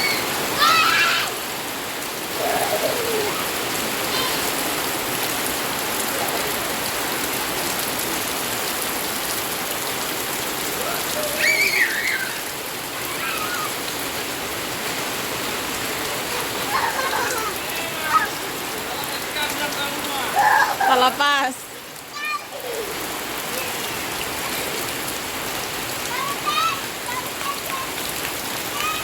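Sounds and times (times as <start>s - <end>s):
heavy rain hissing: 0.0s - 29.0s.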